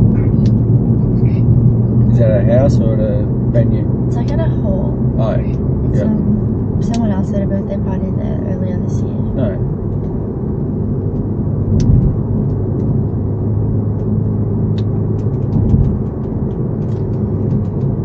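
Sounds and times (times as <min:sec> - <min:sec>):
tyres and engine rumble: 0:00.0 - 0:18.0.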